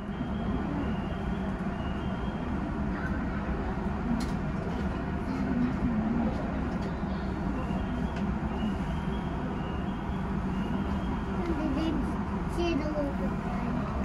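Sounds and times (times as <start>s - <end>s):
electric train rumble and hum: 0.0s - 14.0s.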